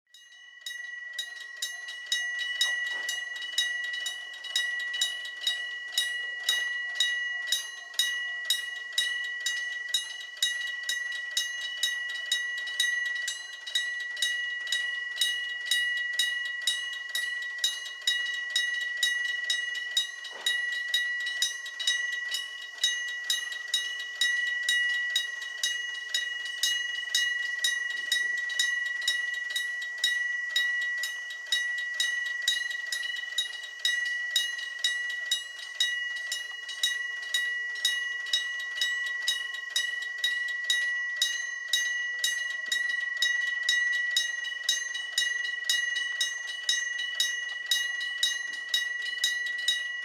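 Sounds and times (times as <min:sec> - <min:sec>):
level crossing bell ringing: 0:00.1 - 0:50.0.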